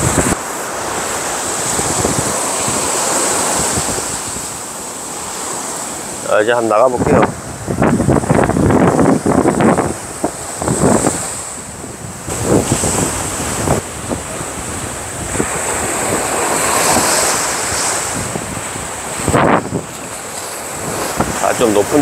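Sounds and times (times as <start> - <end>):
surf breaking on shore: 0.0 - 22.0
wind buffeting microphone: 0.0 - 22.0.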